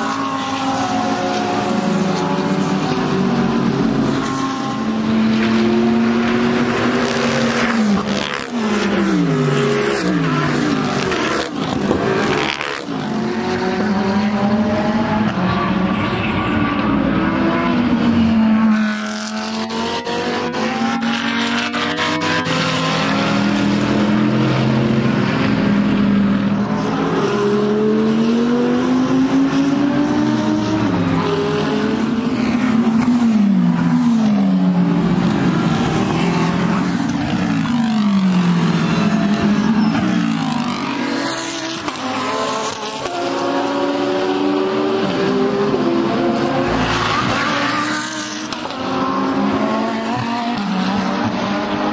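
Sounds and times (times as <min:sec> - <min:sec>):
race car engines accelerating: 0:00.0 - 0:51.9.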